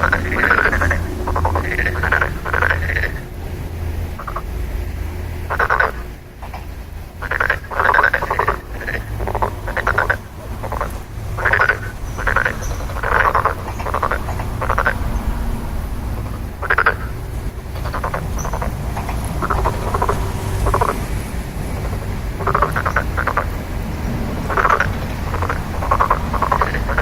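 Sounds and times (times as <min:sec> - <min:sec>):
frogs croaking: 0:00.0 - 0:27.0
steady low rumble: 0:00.0 - 0:27.0.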